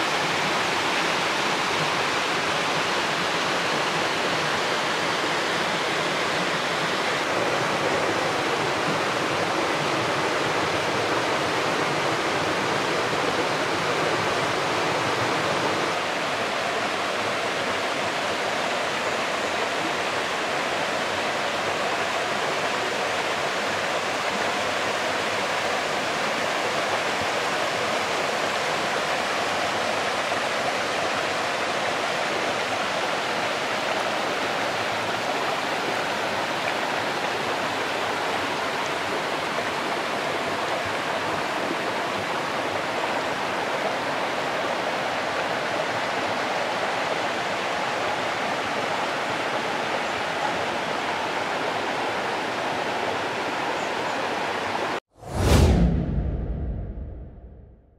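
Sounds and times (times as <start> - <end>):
waterfall rushing over stones: 0.0 - 53.8.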